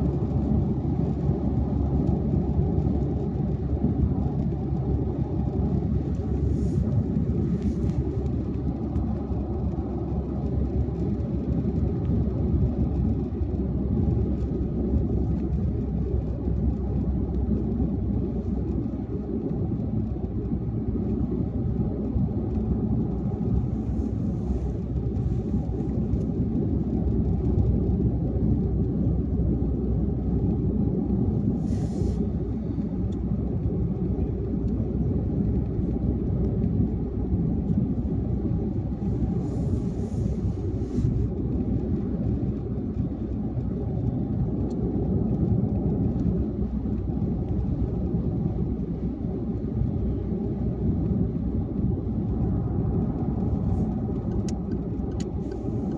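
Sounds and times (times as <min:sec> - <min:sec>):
car road and tyre rumble: 0:00.0 - 0:55.9.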